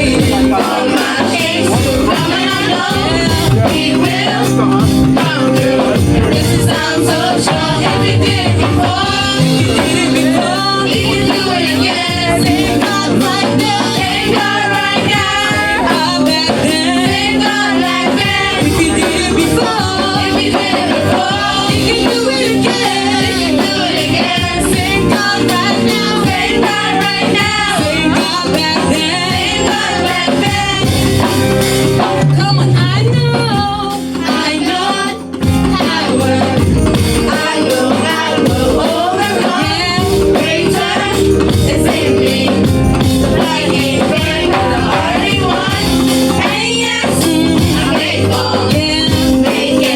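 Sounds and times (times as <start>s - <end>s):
band accompaniment: 0.0s - 49.9s
voices singing: 0.0s - 49.9s.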